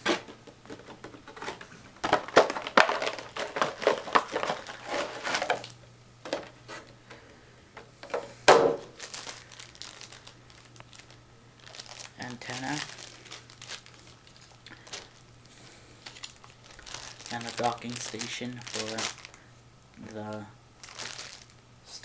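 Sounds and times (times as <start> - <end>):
plastic packaging crinkling: 0.0 - 6.9, 8.1 - 21.6.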